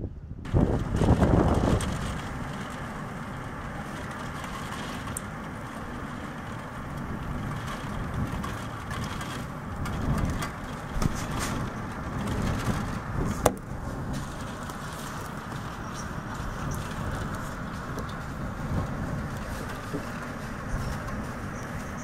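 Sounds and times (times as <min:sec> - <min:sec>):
storm wind gusting: 0:00.0 - 0:22.0
rain on window glass: 0:00.5 - 0:22.0.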